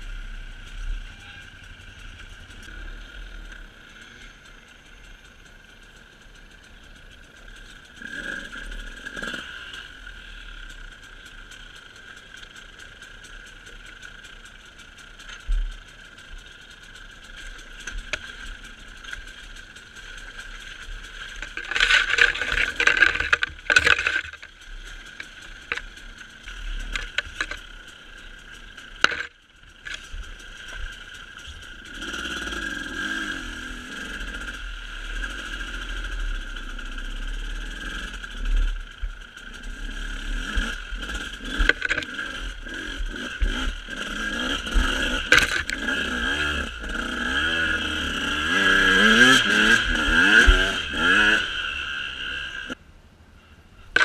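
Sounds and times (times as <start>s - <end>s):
vehicle engine droning: 0.0s - 52.8s.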